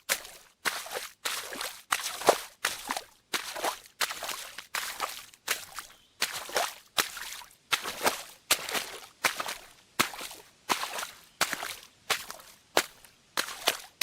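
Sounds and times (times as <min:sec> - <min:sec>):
footsteps splashing in water: 0:00.0 - 0:14.0.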